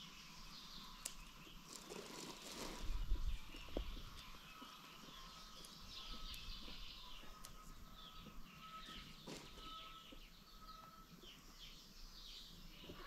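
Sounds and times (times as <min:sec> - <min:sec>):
birds chirping: 0:00.0 - 0:13.0
low outdoor hiss: 0:00.0 - 0:13.0.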